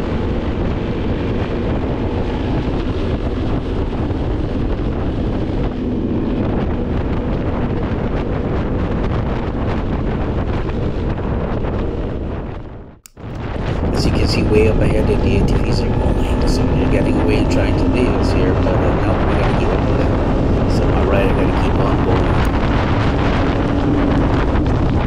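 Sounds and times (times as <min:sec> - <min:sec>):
off-road vehicle engine running: 0:00.0 - 0:11.1, 0:13.4 - 0:25.0
wind buffeting microphone: 0:00.0 - 0:25.0.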